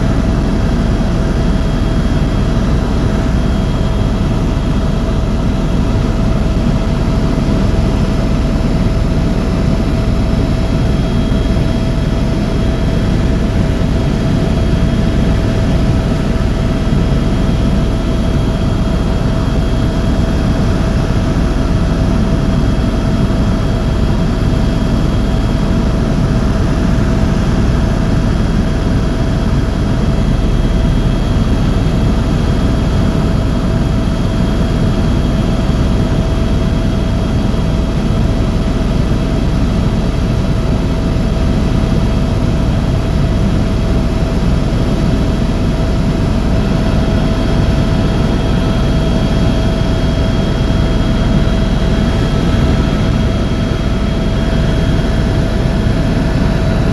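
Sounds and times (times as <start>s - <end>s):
constant helicopter whine: 0.0s - 56.9s
helicopter engine and rotor drone: 0.0s - 56.9s.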